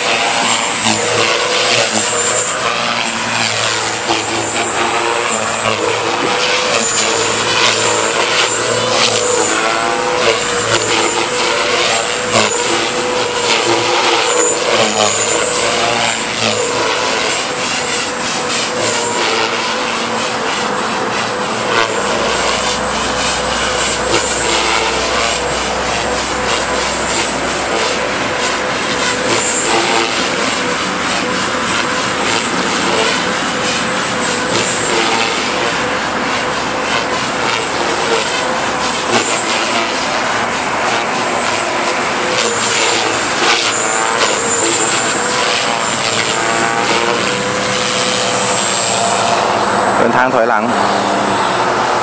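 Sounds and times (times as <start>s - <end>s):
model helicopter rotor whine: 0.0s - 52.0s.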